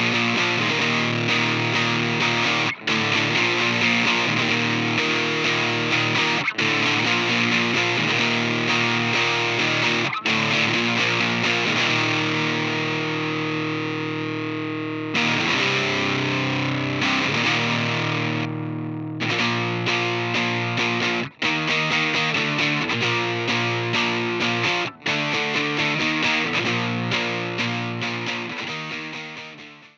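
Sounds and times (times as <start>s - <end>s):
distorted electric guitar chords: 0.0s - 29.9s.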